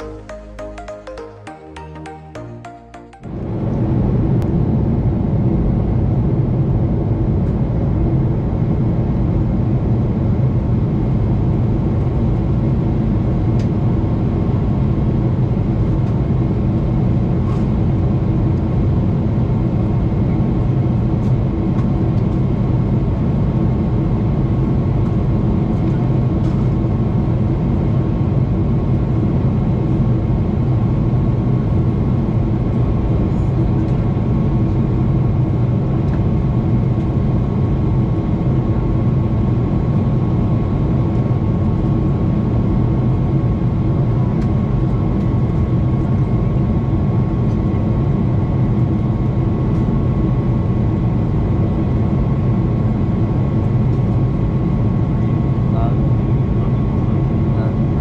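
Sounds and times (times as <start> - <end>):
deep jet engine hum: 3.3 - 58.0.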